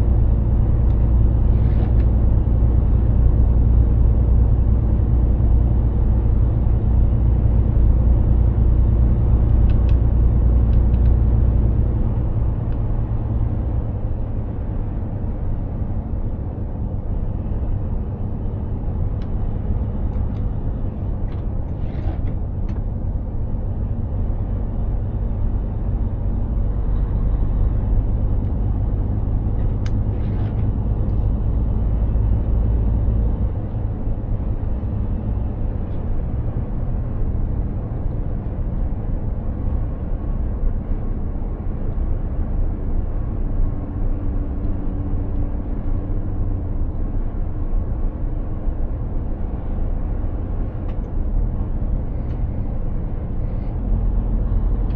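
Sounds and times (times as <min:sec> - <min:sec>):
truck engine and road rumble: 0:00.0 - 0:54.9.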